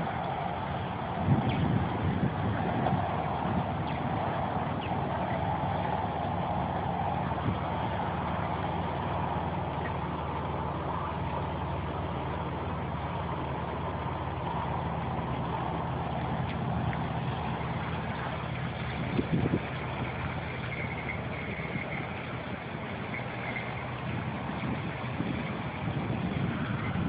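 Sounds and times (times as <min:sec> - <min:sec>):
drone propellers whirring: 0:00.0 - 0:27.0.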